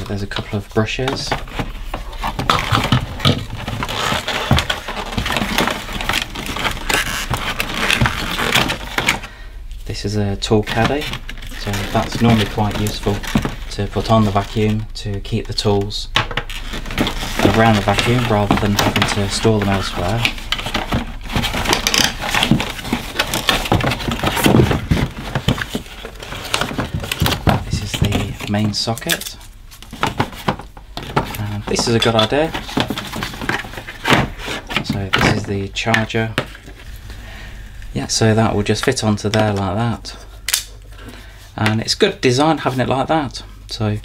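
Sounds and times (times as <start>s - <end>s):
cardboard rustling and scraping: 0.0s - 37.1s.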